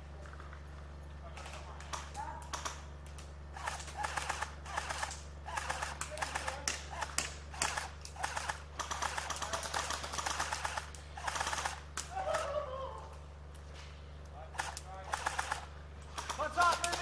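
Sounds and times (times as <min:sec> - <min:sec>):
airsoft guns firing bursts: 0:01.4 - 0:12.5, 0:14.5 - 0:17.0.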